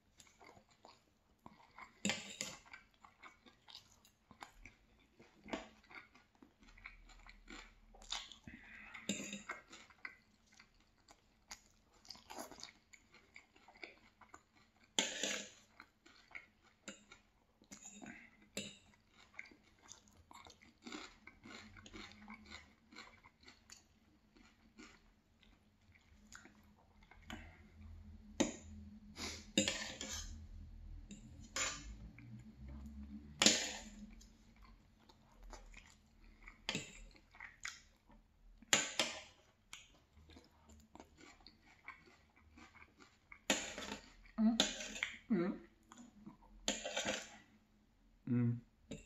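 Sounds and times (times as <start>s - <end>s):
chewing and mouth sounds: 0.1s - 47.5s.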